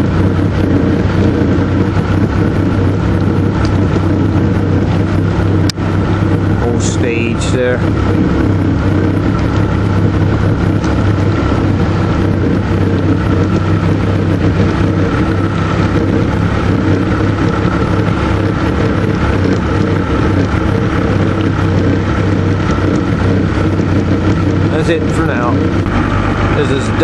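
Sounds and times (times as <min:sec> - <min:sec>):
motorboat engine running: 0:00.0 - 0:27.0.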